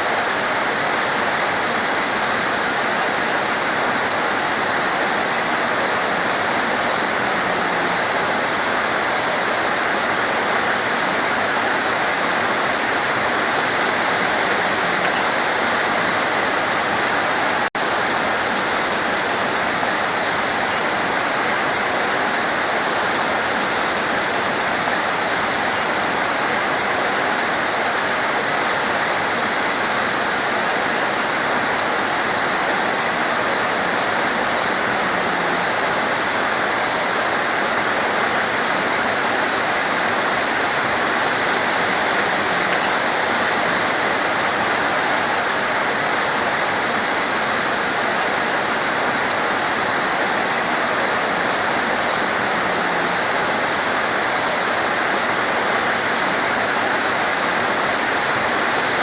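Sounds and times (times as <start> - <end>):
torrential rain hissing: 0.0 - 59.0.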